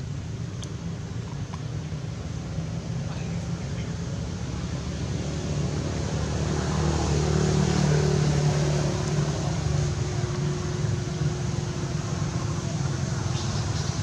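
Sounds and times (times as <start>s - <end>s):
motor vehicle engine hum: 0.0s - 14.0s.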